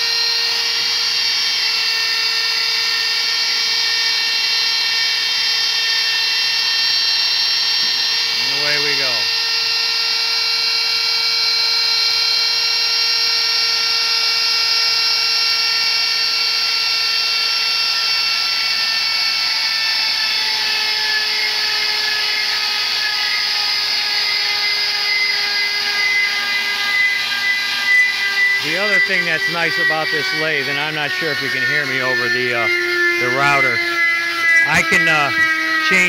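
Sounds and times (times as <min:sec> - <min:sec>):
die grinder whining: 0:00.0 - 0:36.0.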